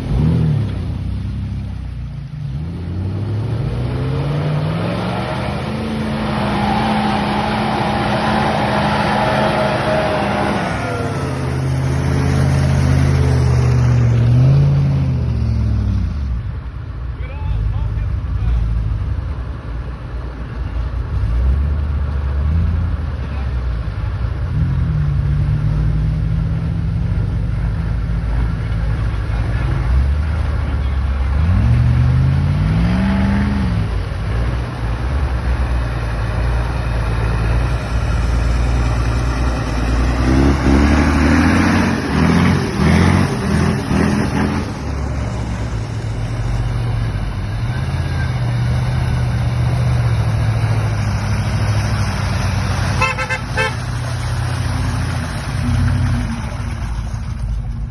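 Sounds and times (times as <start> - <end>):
truck engines revving: 0.0 - 57.9.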